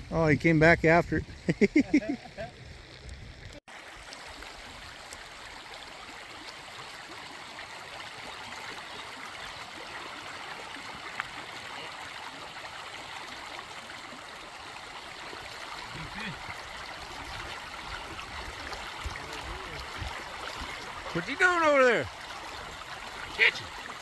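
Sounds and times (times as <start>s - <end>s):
creek water rushing: 3.7s - 24.0s.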